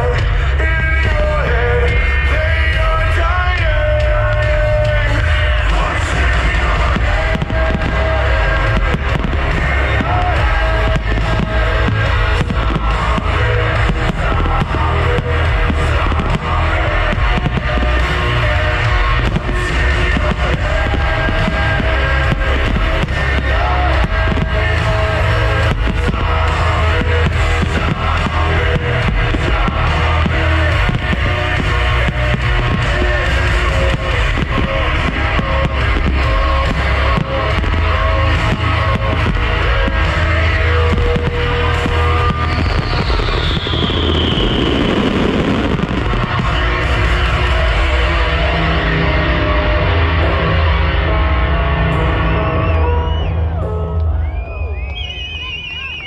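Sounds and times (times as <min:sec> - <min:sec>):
fireworks banging and crackling: 0:00.0 - 0:53.2
loud music: 0:00.0 - 0:56.0.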